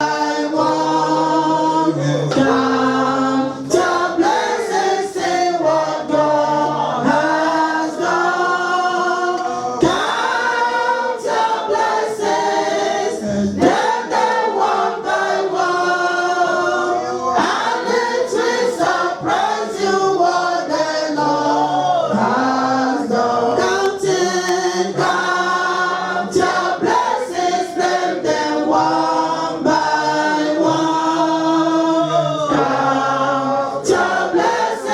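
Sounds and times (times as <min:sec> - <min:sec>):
choir singing worship song: 0:00.0 - 0:34.9.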